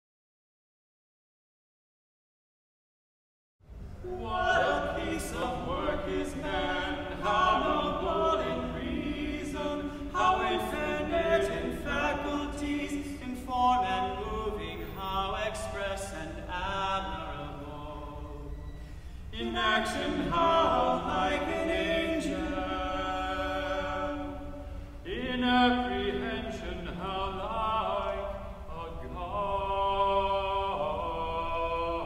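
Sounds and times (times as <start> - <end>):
choir singing in a church: 3.7 - 32.0.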